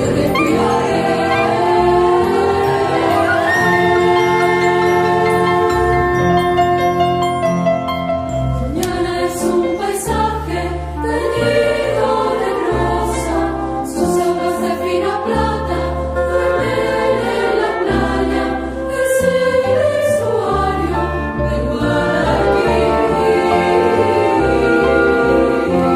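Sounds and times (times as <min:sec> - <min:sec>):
choir singing held notes: 0:00.0 - 0:06.4, 0:08.8 - 0:25.9
instrumental accompaniment: 0:00.0 - 0:25.9.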